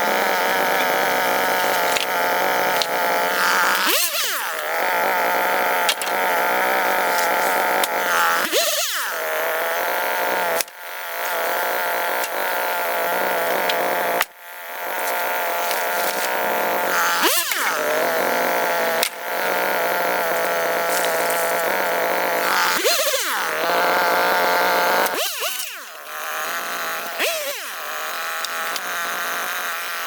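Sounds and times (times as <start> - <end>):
power tool engine at high revs: 0.0 - 30.0.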